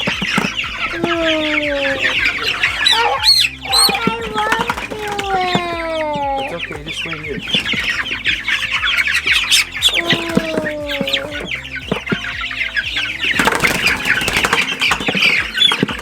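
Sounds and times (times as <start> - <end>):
chicks peeping: 0.0 - 16.0
wings flapping and scuffling: 0.0 - 16.0.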